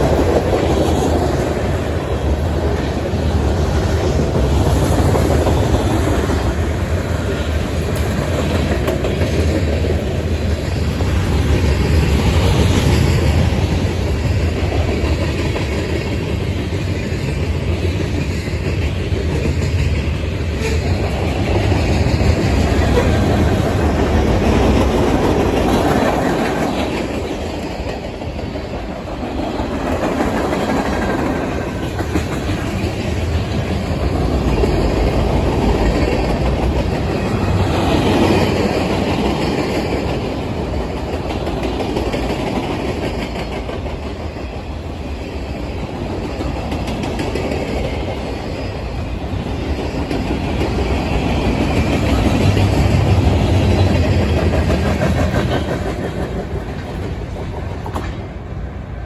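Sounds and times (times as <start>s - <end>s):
train wheels clacking over rail joints: 0.0s - 58.5s.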